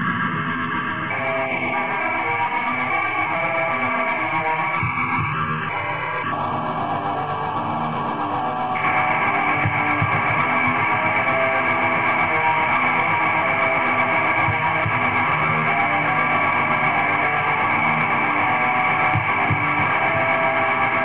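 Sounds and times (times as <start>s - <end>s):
lo-fi black metal music: 0.0s - 21.0s.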